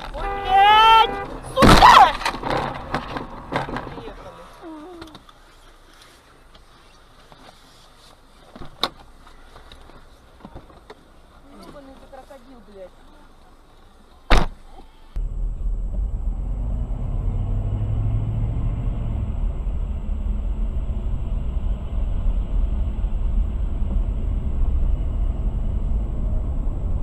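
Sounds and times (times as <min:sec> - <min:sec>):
car driving on road: 0:00.0 - 0:27.0.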